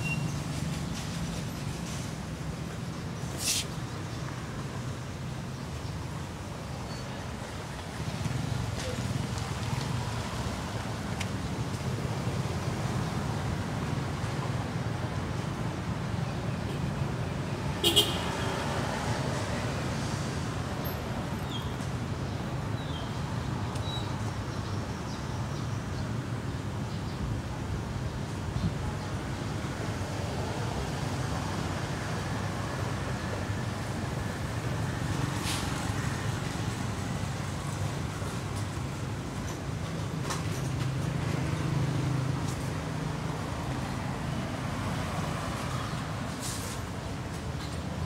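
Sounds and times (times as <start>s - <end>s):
low traffic rumble: 0.0s - 48.0s.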